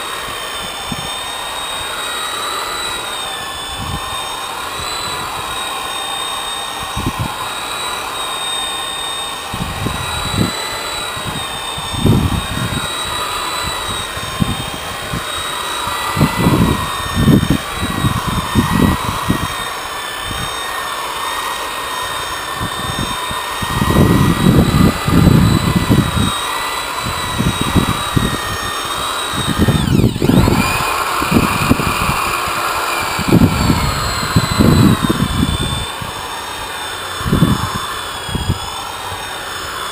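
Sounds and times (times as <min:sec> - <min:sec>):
electric polisher whining: 0:00.0 - 0:39.9
low rumbling bursts: 0:00.2 - 0:39.3.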